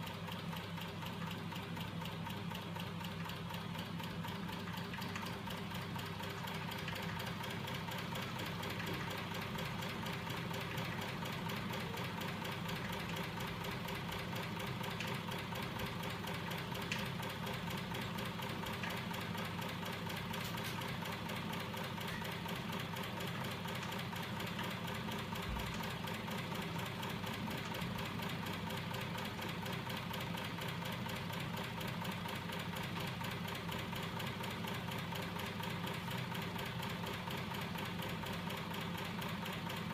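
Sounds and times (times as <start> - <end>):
small machine humming and rattling: 0.0 - 39.9.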